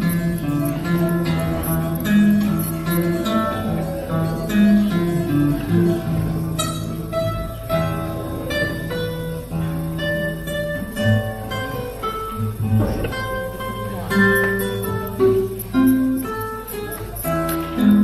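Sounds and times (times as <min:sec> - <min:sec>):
classical guitar melody: 0:00.0 - 0:18.0.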